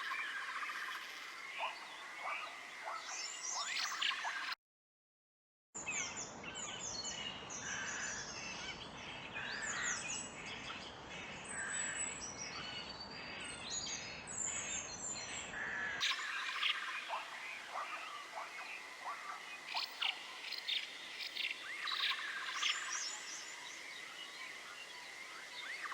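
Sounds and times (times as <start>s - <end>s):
birds chirping and calling: 0.0s - 4.6s, 7.6s - 25.9s
outdoor background noise: 0.0s - 4.6s, 5.8s - 25.9s.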